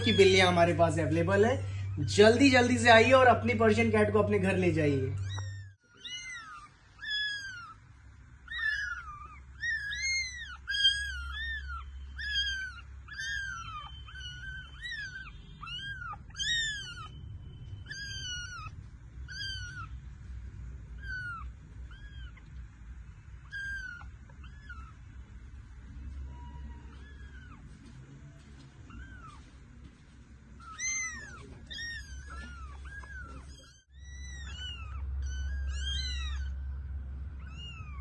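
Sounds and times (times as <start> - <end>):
kittens mewing: 0.0 - 3.2, 5.1 - 20.1, 20.7 - 27.9, 28.7 - 29.7, 30.5 - 38.0.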